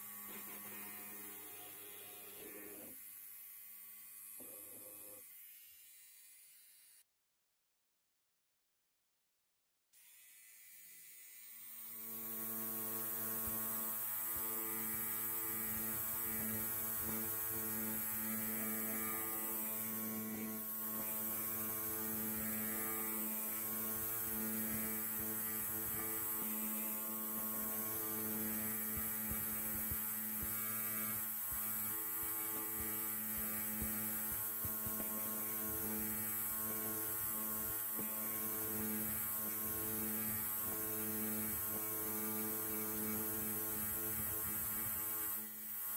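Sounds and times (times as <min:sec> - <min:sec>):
electric hair clipper buzzing: 0:00.0 - 0:07.0, 0:10.0 - 0:45.9.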